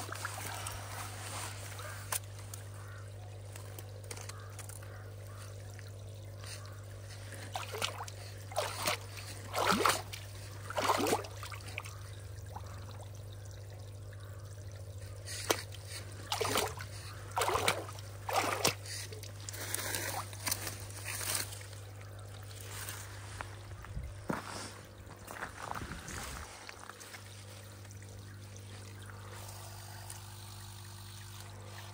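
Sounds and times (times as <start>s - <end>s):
steady low hum: 0.0s - 31.9s
water splashing and sloshing: 0.0s - 31.9s.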